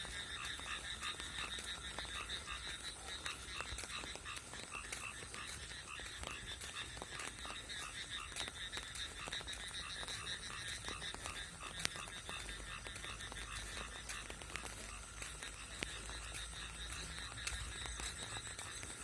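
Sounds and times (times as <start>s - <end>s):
frogs croaking: 0.0s - 19.0s
raindrops ticking: 0.0s - 19.0s.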